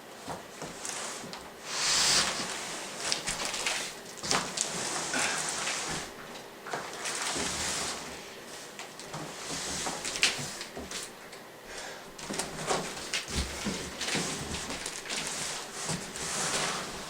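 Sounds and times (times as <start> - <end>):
cardboard and packing rustling: 0.2 - 11.4, 12.1 - 17.0.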